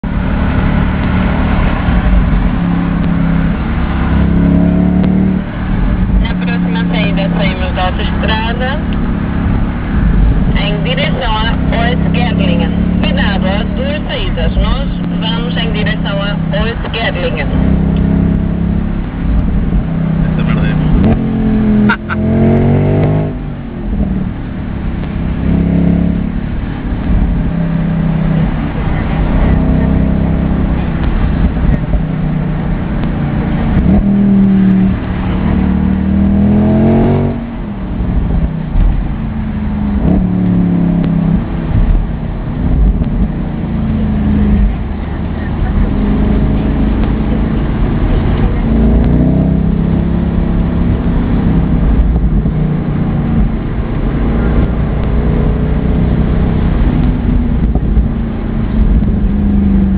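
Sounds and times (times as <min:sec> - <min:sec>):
car engine and exhaust running: 0:00.0 - 0:59.9.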